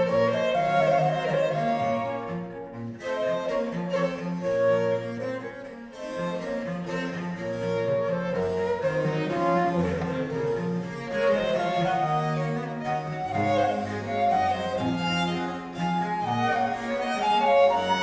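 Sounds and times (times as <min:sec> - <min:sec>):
baroque chamber ensemble: 0:00.0 - 0:18.0.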